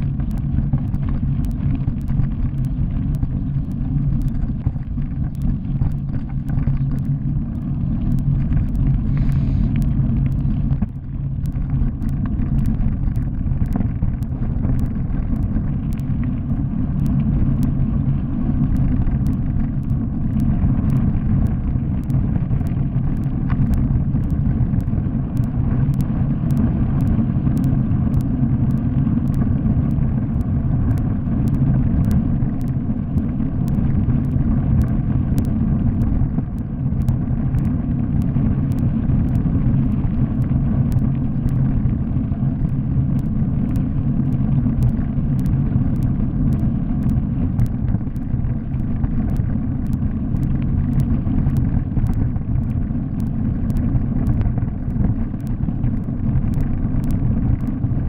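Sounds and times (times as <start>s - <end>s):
bicycle tyres rolling on gravel: 0.0s - 58.0s.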